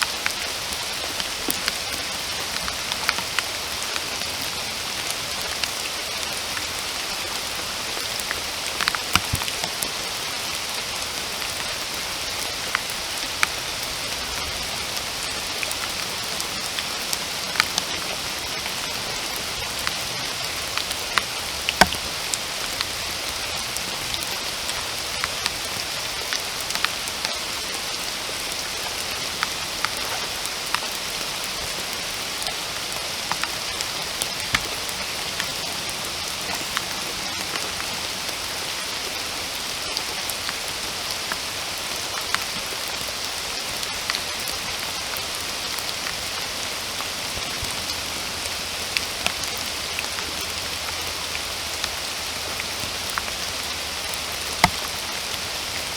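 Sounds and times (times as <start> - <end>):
raindrops ticking on surfaces: 0.0 - 55.9
steady rain hiss: 0.0 - 55.9.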